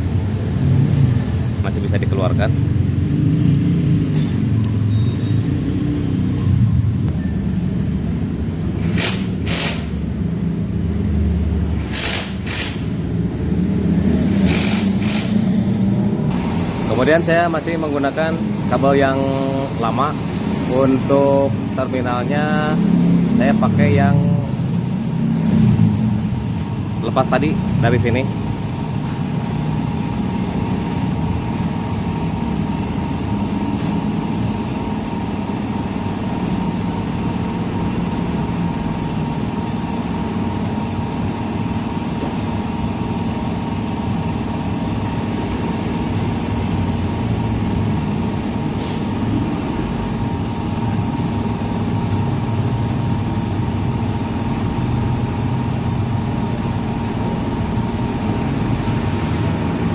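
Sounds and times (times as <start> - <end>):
low mechanical rumble: 0.0 - 59.9.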